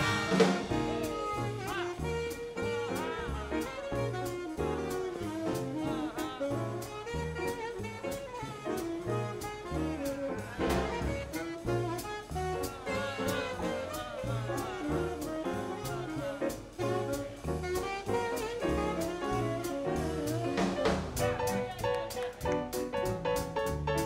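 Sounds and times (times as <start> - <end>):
saxophone solo: 0.0 - 23.1
bass: 0.0 - 24.0
drums with swing cymbals: 0.0 - 24.0
piano: 0.0 - 24.0.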